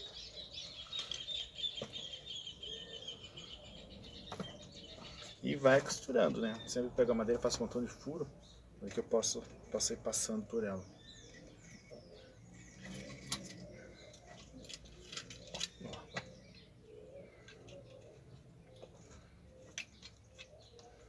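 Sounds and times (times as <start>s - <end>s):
distant bird calling: 0.0s - 21.0s.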